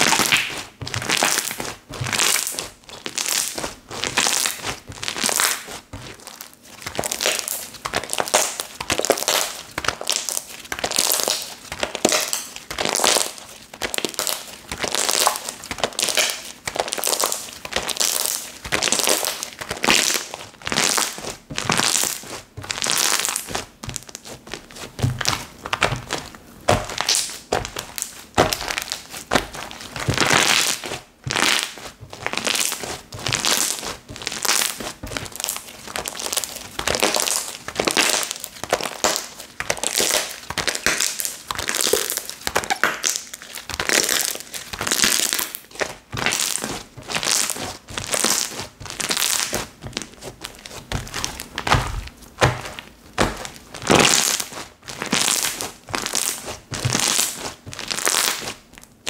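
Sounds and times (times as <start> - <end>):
slime being squished by hand: 0.0 - 59.0.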